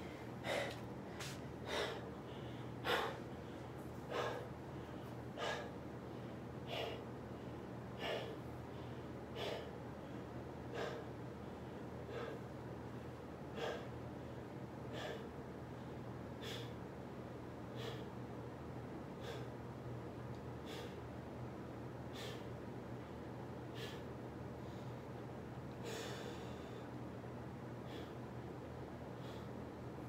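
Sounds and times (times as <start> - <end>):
man breathing heavily: 0.0 - 16.9, 17.6 - 18.3, 19.1 - 19.7, 20.6 - 21.2, 22.0 - 30.0.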